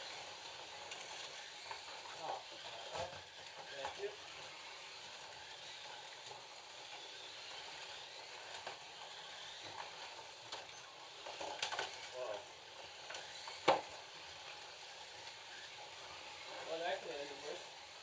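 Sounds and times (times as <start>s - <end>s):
slot cars whirring: 0.0s - 18.0s.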